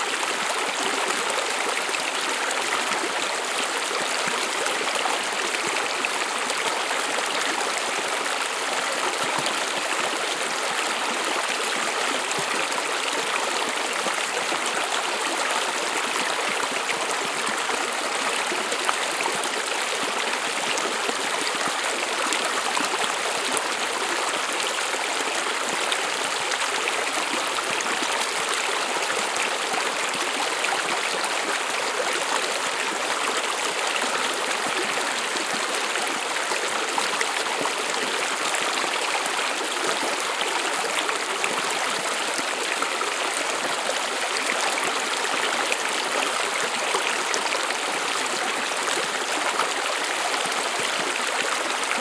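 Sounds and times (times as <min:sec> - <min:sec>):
stream flowing over stones: 0:00.0 - 0:52.0.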